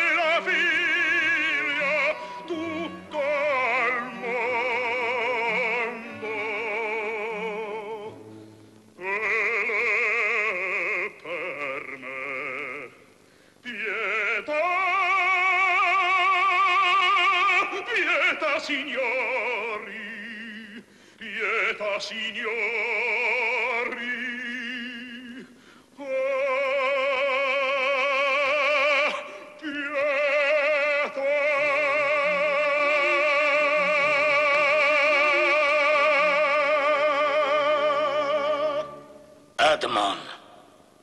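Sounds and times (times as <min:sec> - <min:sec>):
operatic voice singing long notes: 0:00.0 - 0:08.2, 0:09.0 - 0:13.0, 0:13.6 - 0:40.6.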